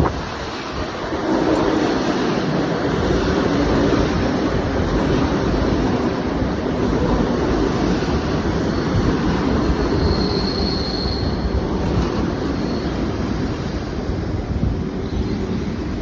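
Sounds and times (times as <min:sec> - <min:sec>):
train wheels rumbling on rails: 0:00.0 - 0:16.0
wind buffeting microphone: 0:00.0 - 0:16.0.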